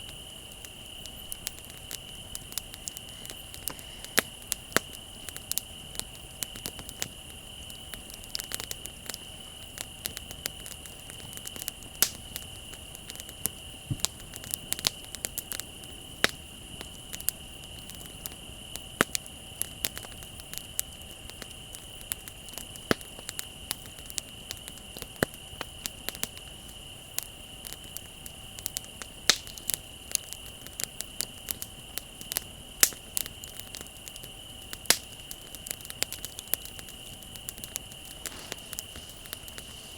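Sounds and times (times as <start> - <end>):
bonfire crackling and popping: 0.0 - 39.9
crickets trilling: 0.0 - 39.9.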